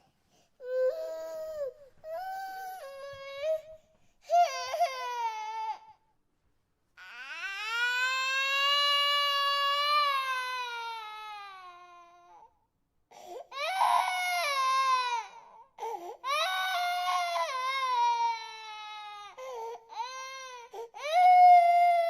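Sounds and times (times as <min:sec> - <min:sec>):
infant crying: 0:00.6 - 0:06.0, 0:07.0 - 0:12.5, 0:13.1 - 0:22.0.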